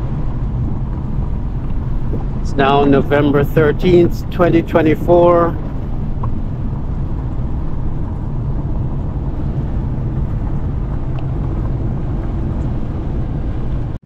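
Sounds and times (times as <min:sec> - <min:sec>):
car driving on gravel: 0:00.0 - 0:14.0.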